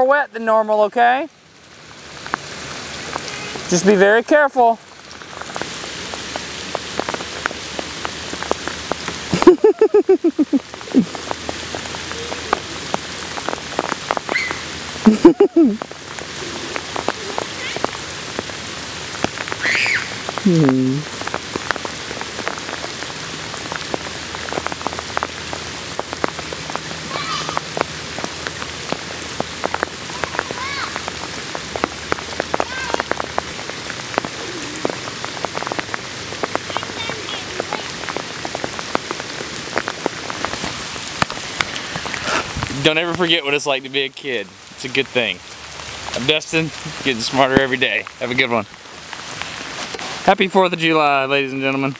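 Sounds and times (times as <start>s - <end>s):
heavy rain on water: 0.0s - 51.9s.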